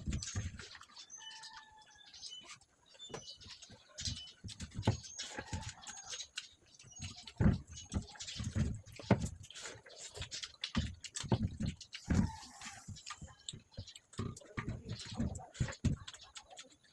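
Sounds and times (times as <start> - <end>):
chewing and mouth smacks: 0.0 - 16.9.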